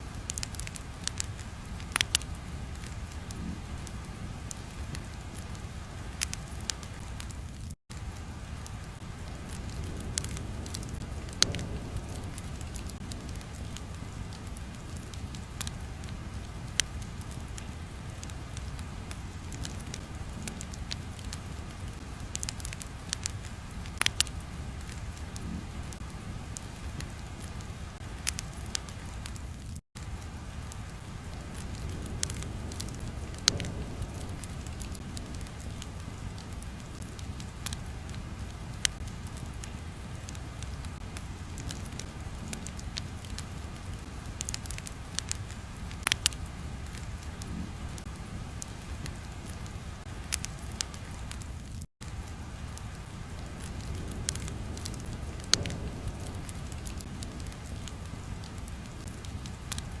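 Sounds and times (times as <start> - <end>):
fire crackling and popping: 0.0 - 60.0
low fire rumble: 0.0 - 60.0.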